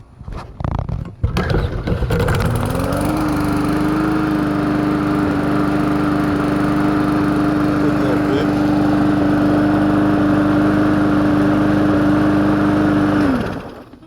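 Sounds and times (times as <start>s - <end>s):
lawn mower engine starting and running: 0.0s - 14.0s.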